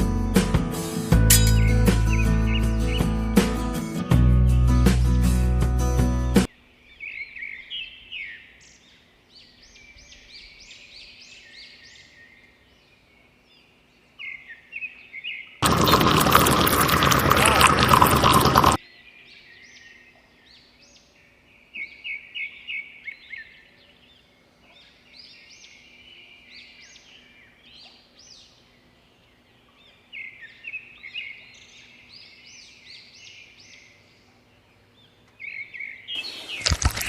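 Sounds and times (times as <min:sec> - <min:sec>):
small birds chirping: 0:06.8 - 0:37.0.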